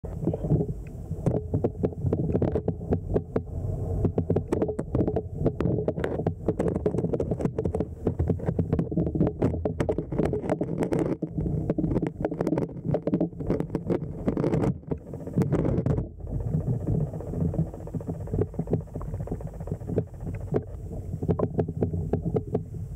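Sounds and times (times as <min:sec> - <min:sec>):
crackling clicks underwater: 0:00.1 - 0:22.9
underwater stream flowing: 0:00.1 - 0:22.9.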